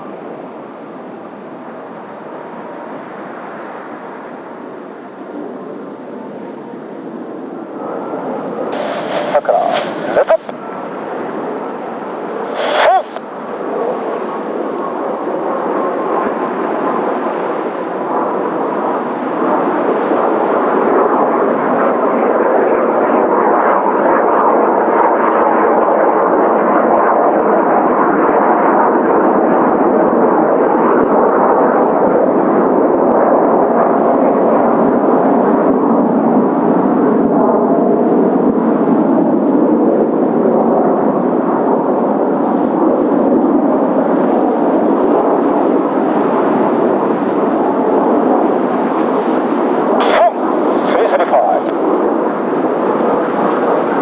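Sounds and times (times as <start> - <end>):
jet aircraft flying over: 0.0 - 54.0.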